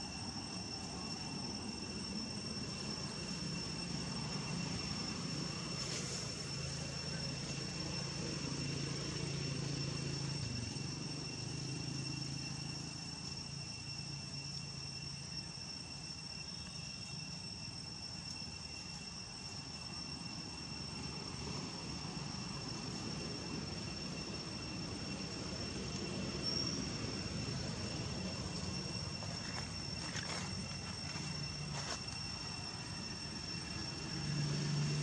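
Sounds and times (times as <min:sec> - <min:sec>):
distant engine hum: 0:00.0 - 0:35.0
insects droning: 0:00.0 - 0:35.0.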